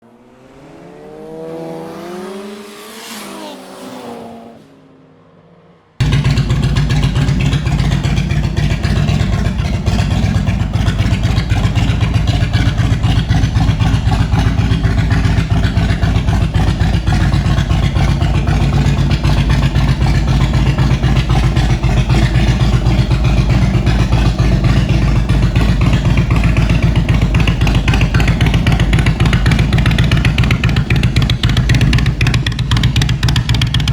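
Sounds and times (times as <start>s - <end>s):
motorcycle engine running: 6.0s - 33.9s.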